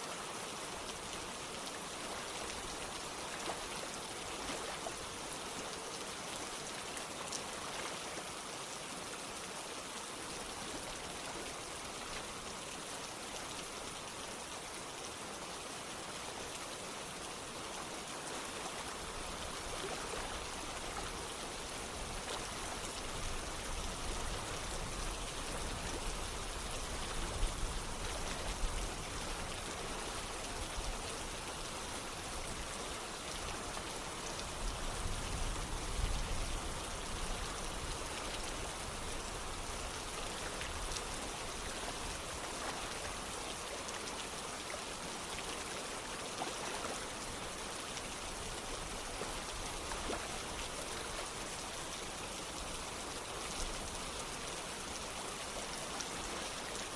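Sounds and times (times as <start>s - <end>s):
rain falling: 0.0s - 56.9s
running water: 0.0s - 56.9s.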